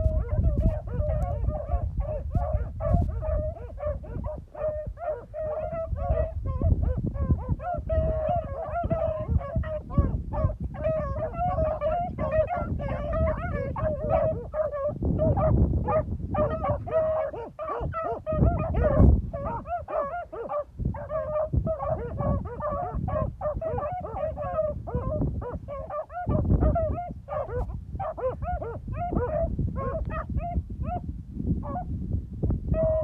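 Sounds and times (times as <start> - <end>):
hounds baying: 0.0 - 31.0, 31.6 - 31.9, 32.7 - 33.0
wind rumble on microphone: 0.0 - 33.0.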